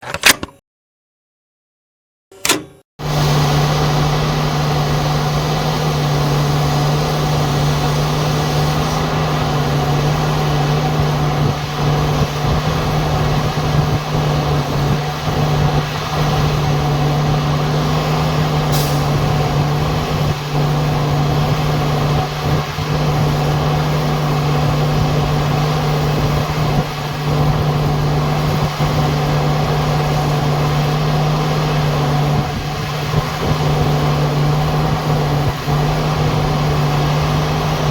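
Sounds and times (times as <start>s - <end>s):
diesel generator engine humming: 3.0s - 37.9s.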